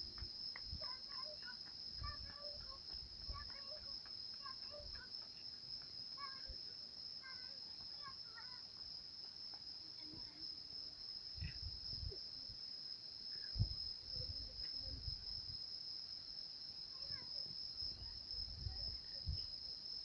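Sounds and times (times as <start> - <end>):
insects trilling: 0.2 - 20.0.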